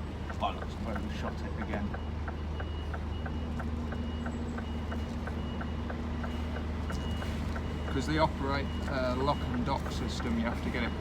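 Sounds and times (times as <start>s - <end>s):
diesel truck engine idling: 0.0s - 11.0s
regular ticks: 0.1s - 10.9s
faint reversing alarm beep: 0.4s - 11.0s.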